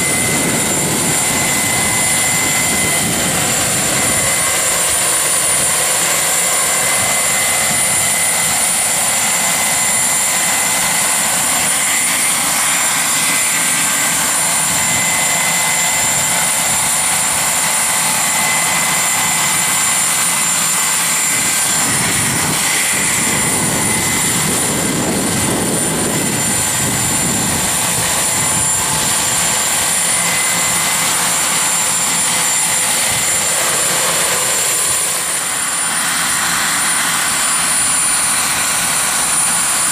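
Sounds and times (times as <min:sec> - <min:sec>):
helicopter rotor noise: 0:00.0 - 0:39.9
model helicopter turbine whine: 0:00.0 - 0:39.9.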